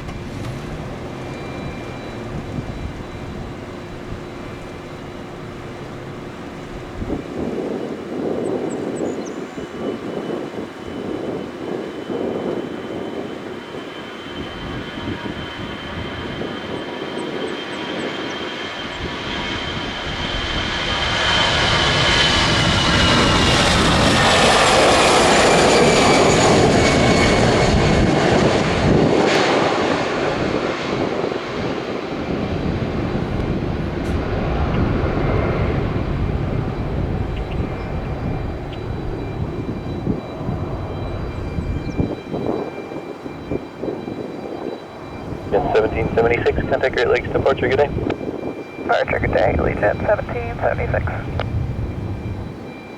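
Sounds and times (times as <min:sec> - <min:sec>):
jet airliner taking off: 0:00.0 - 0:52.9.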